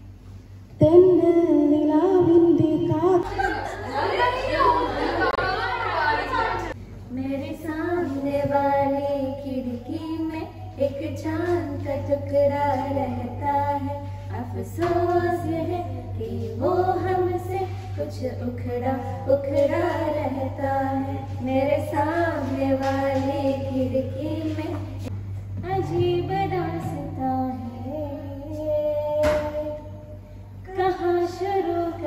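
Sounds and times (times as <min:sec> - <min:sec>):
steady low hum: 0:00.0 - 0:32.0
women singing into microphone: 0:00.8 - 0:30.0, 0:30.6 - 0:32.0.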